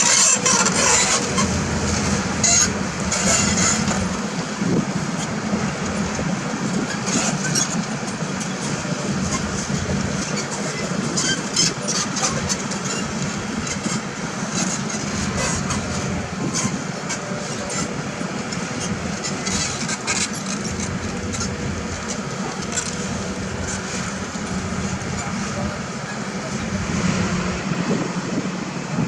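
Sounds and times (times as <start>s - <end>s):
diesel machinery running: 0.0s - 29.0s.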